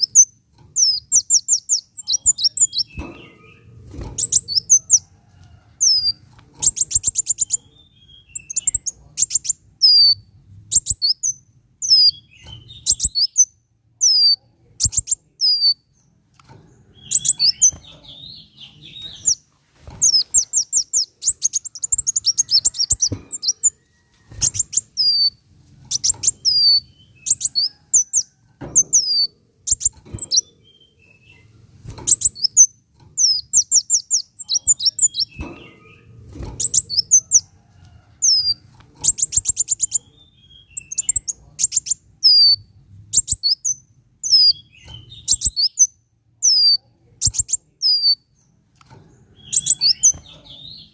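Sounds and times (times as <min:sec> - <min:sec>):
bird singing trills and whistles: 0:00.0 - 0:05.1, 0:05.8 - 0:15.8, 0:17.0 - 0:19.4, 0:24.4 - 0:31.4, 0:32.1 - 0:37.5, 0:38.2 - 0:48.3, 0:49.4 - 0:50.9.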